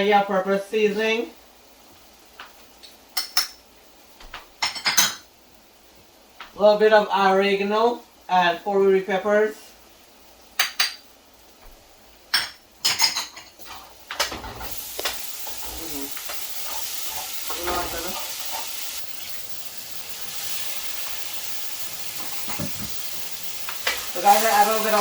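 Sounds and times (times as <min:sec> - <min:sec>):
oil and spices sizzling: 0:00.0 - 0:25.0.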